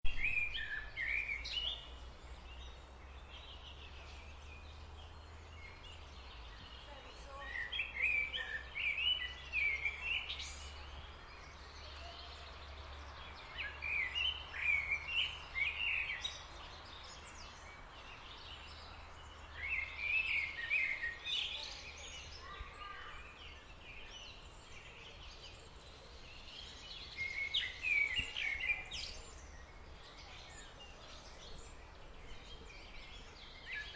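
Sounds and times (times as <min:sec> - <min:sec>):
bird singing chirpy notes: 0:00.0 - 0:33.9.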